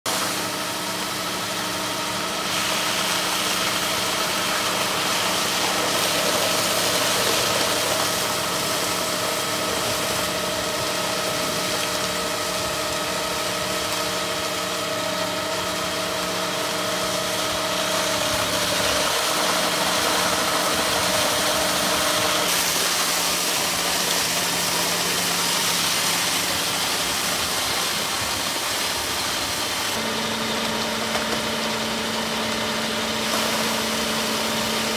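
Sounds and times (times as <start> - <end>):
tractor engine running: 0.0 - 34.9
hiss of water jet: 0.1 - 31.8, 33.1 - 34.9.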